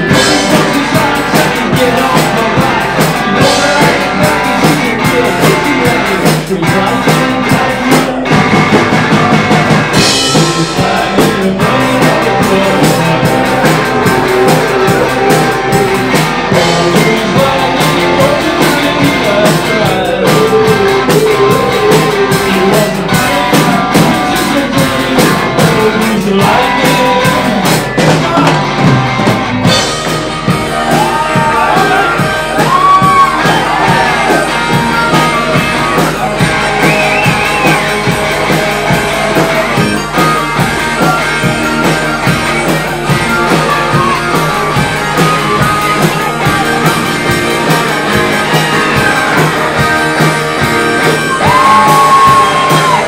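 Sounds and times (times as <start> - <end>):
rock and roll band playing: 0.0 - 53.0.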